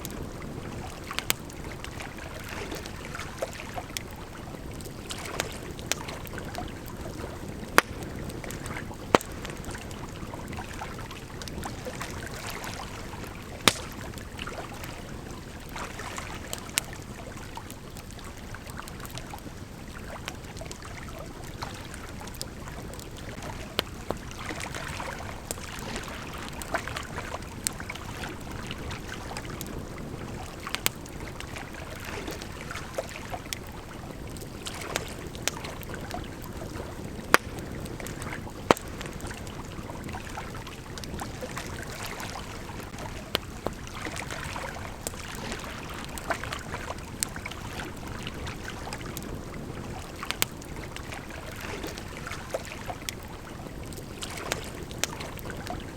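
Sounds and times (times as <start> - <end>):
campfire wood crackling: 0.0 - 55.9
river flowing: 0.0 - 55.9.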